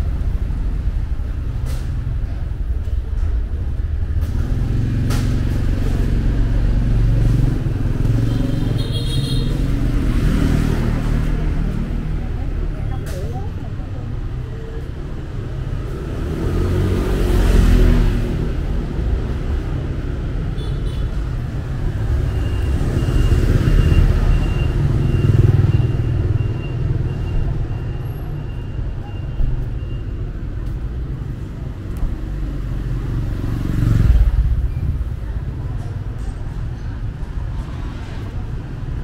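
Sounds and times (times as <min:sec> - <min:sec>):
traffic rumble: 0:00.0 - 0:39.0
vehicles passing: 0:00.0 - 0:39.0.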